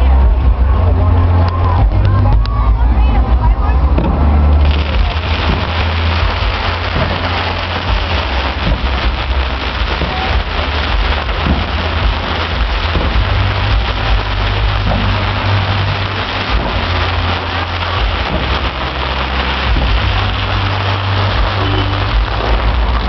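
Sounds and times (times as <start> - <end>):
low rumble of bursts: 0.0 - 23.0
fireworks crackling and popping: 3.8 - 23.0.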